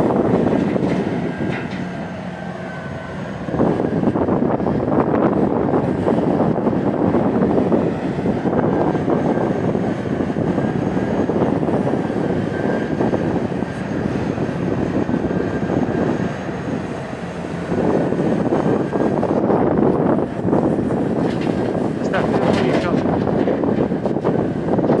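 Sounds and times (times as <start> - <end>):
heavy diesel engine drone: 0.0 - 25.0.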